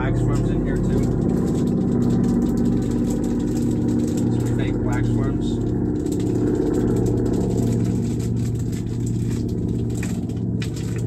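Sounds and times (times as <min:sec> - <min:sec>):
engine-like low drone: 0:00.0 - 0:11.0
plastic package crinkling: 0:00.7 - 0:11.0.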